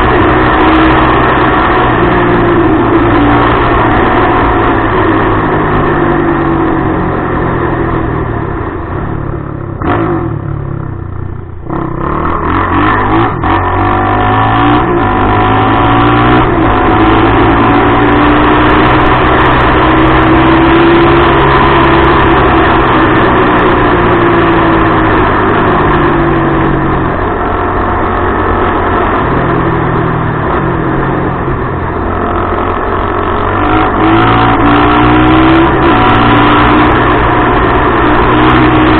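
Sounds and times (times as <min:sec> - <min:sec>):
quad engine running hard: 0:00.0 - 0:38.9.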